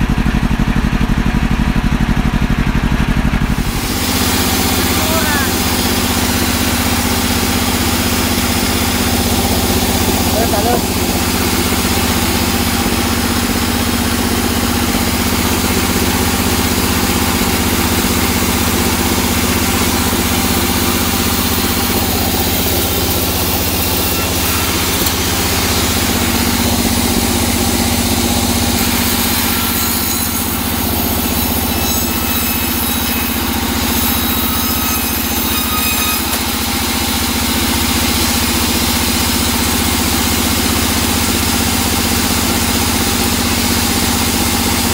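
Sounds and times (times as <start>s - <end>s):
band saw cutting wood: 3.4s - 44.9s.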